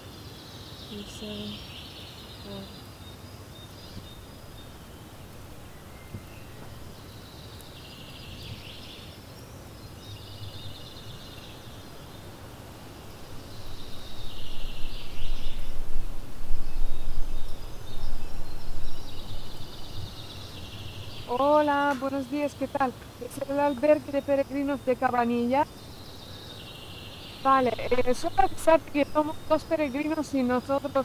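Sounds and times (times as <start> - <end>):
bird singing buzzy trills: 0.0 - 31.0
outdoor background noise: 0.0 - 31.0.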